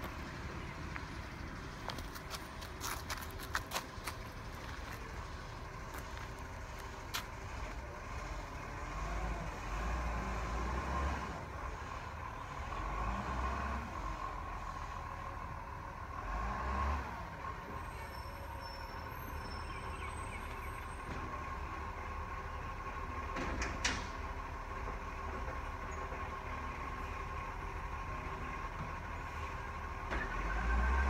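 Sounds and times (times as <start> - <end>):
distant garbage truck engine: 0.0 - 31.0.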